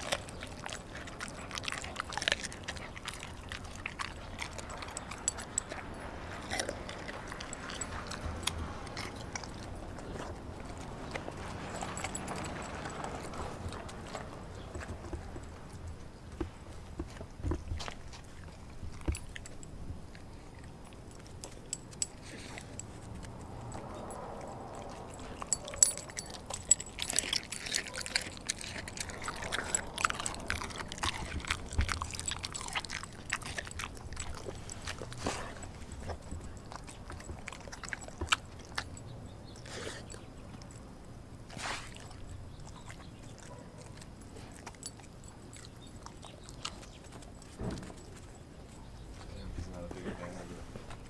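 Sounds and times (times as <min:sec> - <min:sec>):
dog chewing raw meat: 0:00.0 - 0:51.0.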